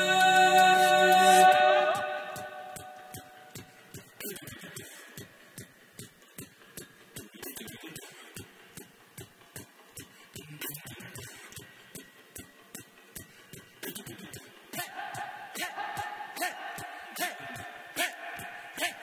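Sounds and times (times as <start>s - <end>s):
beatboxing snare-like clicks: 0.0s - 19.0s
beatboxing kick thumps: 1.9s - 19.0s.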